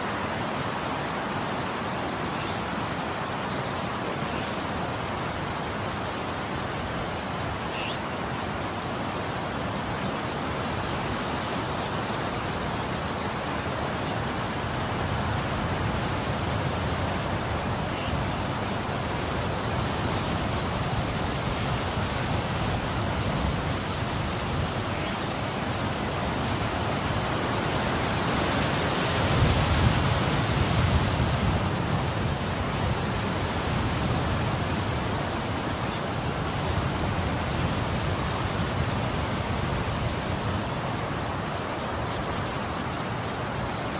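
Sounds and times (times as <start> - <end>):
wind and snow hiss: 0.0 - 43.9.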